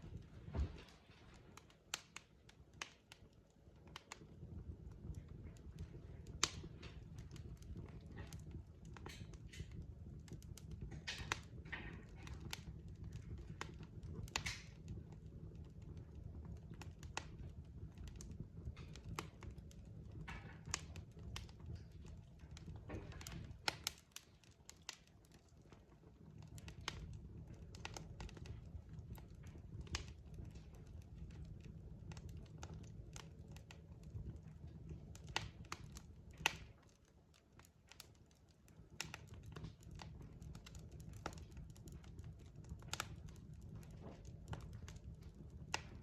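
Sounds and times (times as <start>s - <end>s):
log fire crackling: 0.0s - 46.0s.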